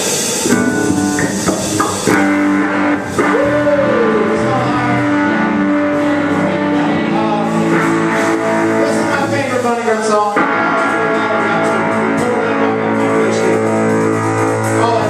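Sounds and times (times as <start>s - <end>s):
bass guitar: 0.0s - 15.0s
drum kit: 0.0s - 15.0s
electric guitars: 0.0s - 15.0s
person singing: 0.4s - 15.0s.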